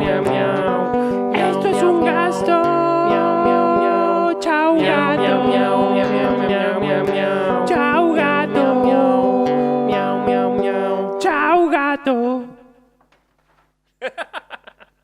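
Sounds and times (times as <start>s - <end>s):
acoustic guitar chords: 0.0s - 12.6s
man singing wordlessly: 0.0s - 12.8s.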